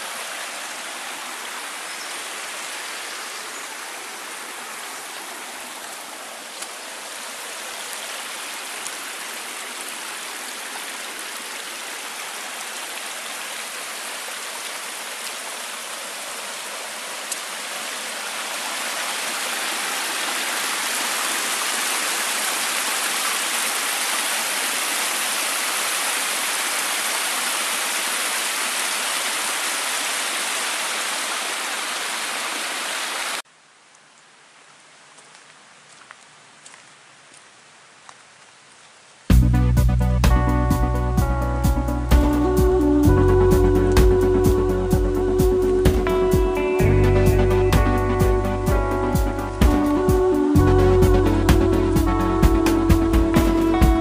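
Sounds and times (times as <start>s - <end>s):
stream rushing: 0.0s - 33.5s, 40.4s - 54.0s.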